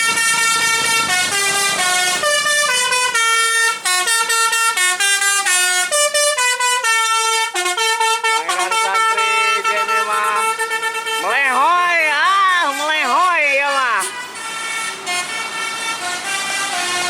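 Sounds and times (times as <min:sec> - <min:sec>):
bus musical horn playing a tune: 0:00.0 - 0:17.0.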